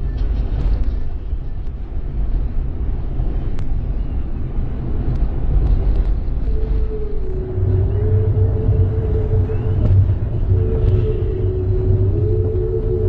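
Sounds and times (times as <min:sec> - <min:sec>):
vehicle driving on snowy road: 0:00.0 - 0:13.0.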